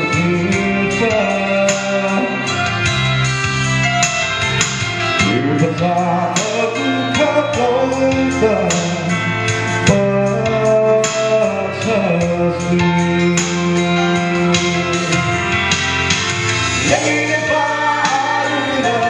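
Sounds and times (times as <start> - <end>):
man singing into a microphone: 0.0 - 3.1, 5.2 - 15.8, 16.7 - 19.0
gospel backing music: 0.0 - 19.0.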